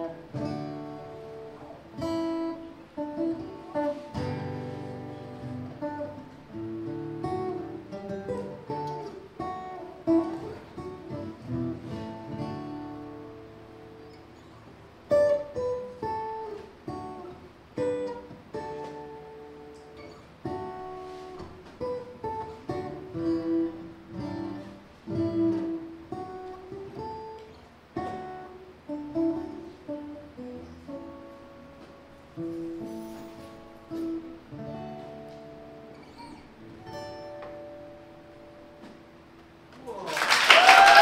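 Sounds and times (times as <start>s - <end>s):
acoustic guitar melody: 0.0s - 39.9s.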